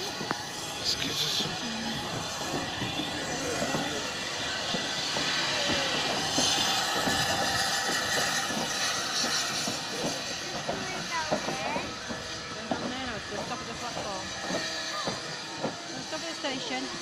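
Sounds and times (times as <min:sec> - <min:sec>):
steam locomotive hiss: 0:00.0 - 0:17.0.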